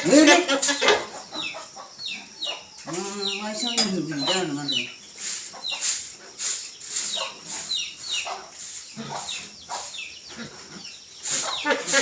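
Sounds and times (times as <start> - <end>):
birds cheeping: 0.0 - 12.0.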